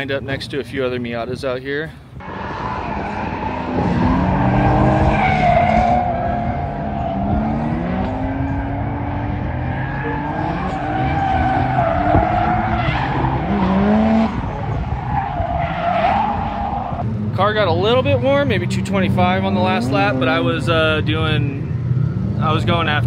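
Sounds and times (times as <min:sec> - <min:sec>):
car engines revving: 0:02.1 - 0:23.0.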